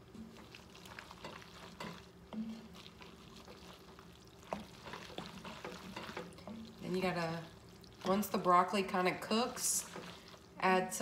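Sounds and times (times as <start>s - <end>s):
food sizzling: 0.0s - 11.0s
wooden spoon scraping pot: 0.2s - 10.6s.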